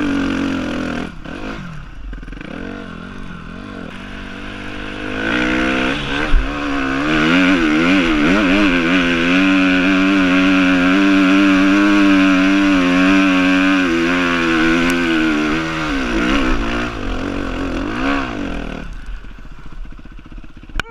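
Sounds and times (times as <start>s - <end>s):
dirt bike engine revving: 0.0s - 20.9s.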